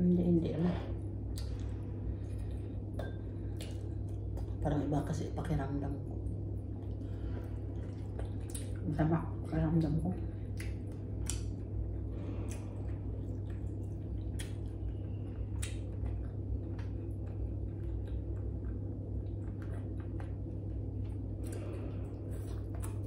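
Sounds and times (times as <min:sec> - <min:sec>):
steady low hum: 0:00.0 - 0:23.0
chewing with wet mouth smacks: 0:01.2 - 0:04.6, 0:06.2 - 0:23.0.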